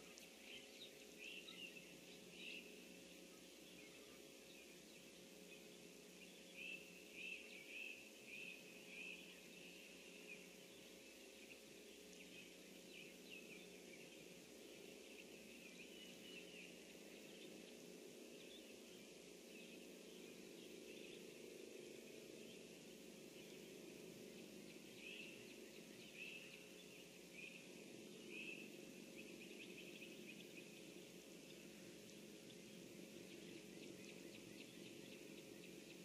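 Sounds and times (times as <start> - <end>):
distant songbird calls: 0.0 - 36.0.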